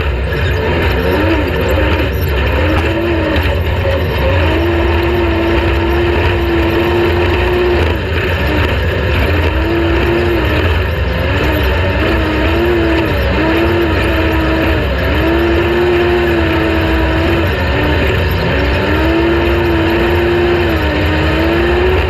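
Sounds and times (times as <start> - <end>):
engine running hard: 0.0 - 22.0.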